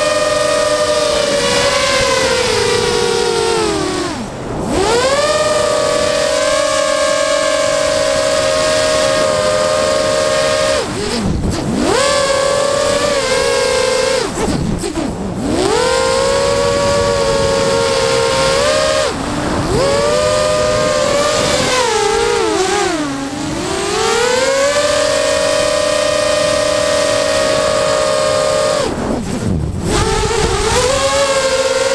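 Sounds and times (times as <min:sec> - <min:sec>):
drone motors whining: 0:00.0 - 0:31.9.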